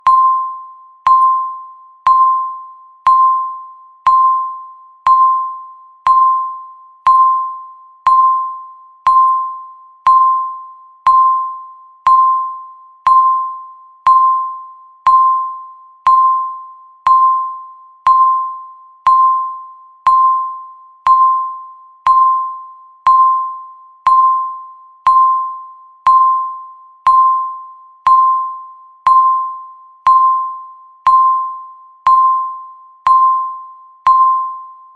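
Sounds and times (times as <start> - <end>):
timer electronic beeps: 0.0 - 34.9.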